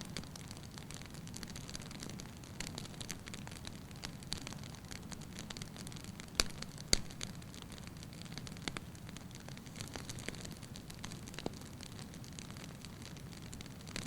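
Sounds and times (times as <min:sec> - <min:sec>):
fire crackling: 0:00.0 - 0:14.0
fire flames rumbling: 0:00.0 - 0:14.0
loud pops from fire: 0:00.0 - 0:14.0.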